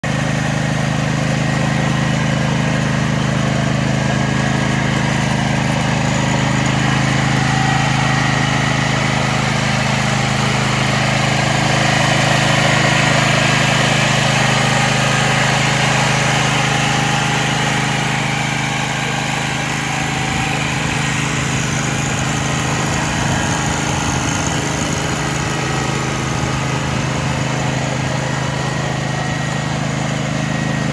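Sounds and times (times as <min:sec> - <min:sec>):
mower engine running: 0:00.0 - 0:30.9.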